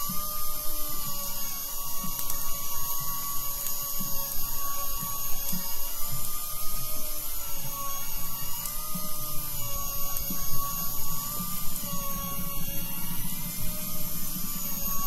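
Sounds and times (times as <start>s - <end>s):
electric fishing reel motor whining: 0.0s - 15.0s.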